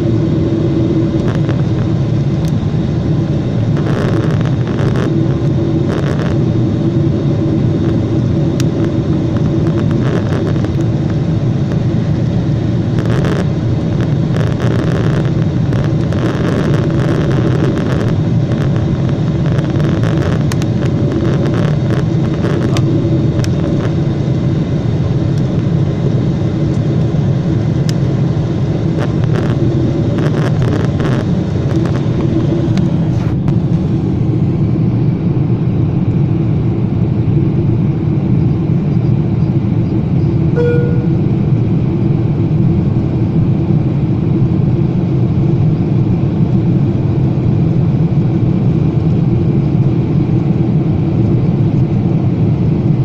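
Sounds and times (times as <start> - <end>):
airliner engines rumbling in cabin: 0.0 - 53.0.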